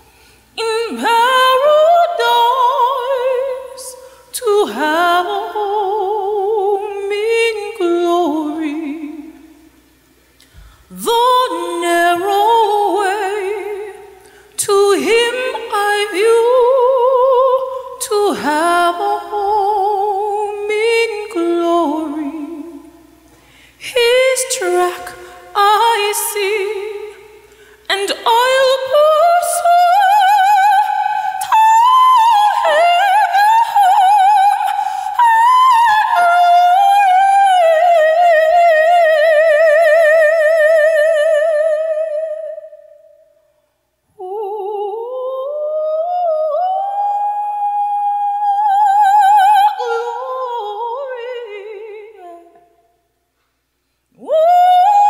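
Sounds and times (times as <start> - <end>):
woman singing unaccompanied: 0.6 - 9.6, 10.9 - 43.2, 44.2 - 52.9, 54.2 - 55.0.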